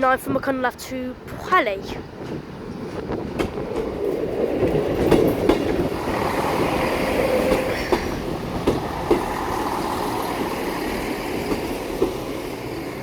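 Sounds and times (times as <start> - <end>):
train rumbling: 0.0 - 13.0
wheels clacking over rail joints: 2.0 - 13.0.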